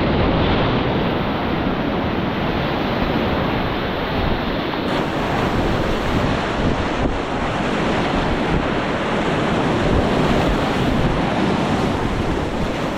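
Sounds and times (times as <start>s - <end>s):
whitewater rapids rushing: 0.0s - 12.9s
wind noise on microphone: 0.0s - 12.9s.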